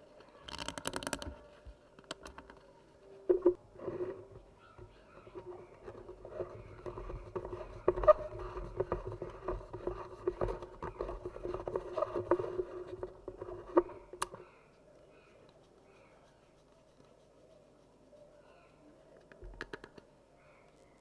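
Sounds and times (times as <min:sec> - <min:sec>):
bamboo strips clicking and scraping: 0:00.0 - 0:17.3, 0:19.1 - 0:20.2.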